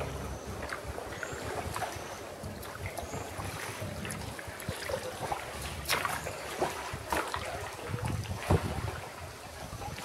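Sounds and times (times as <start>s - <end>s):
paddle splashes and drips: 0.0s - 10.0s
wind rumble on microphone: 0.0s - 10.0s.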